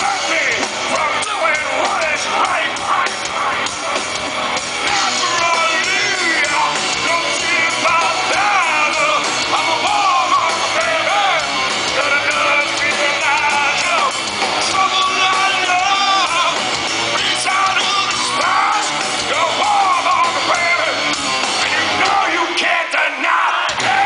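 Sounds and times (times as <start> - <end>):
hard rock band playing: 0.0 - 24.0
sung and shouted lead vocal: 0.0 - 24.0.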